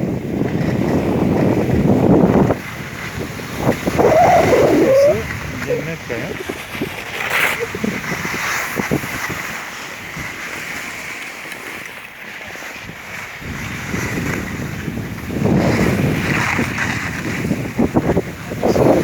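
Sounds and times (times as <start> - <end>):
wind buffeting microphone: 0.0 - 11.1, 12.5 - 19.0.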